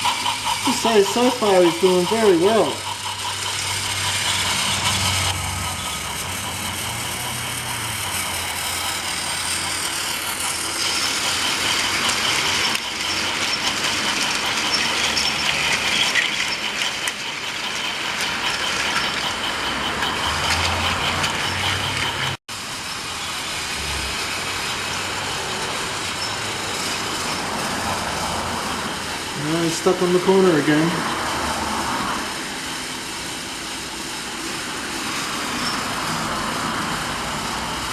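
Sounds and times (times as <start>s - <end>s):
wheels rattling on plastic track: 0.0s - 22.4s, 23.0s - 37.9s
toy train motor whirring: 0.0s - 37.9s.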